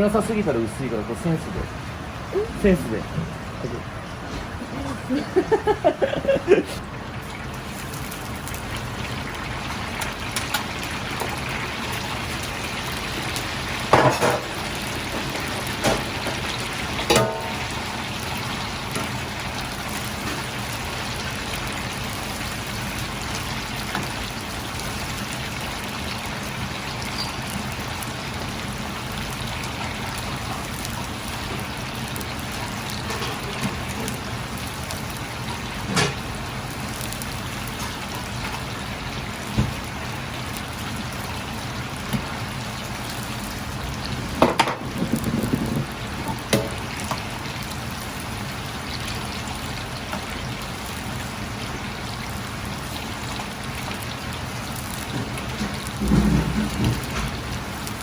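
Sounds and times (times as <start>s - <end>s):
wok hissing and trickling: 2.2s - 58.0s.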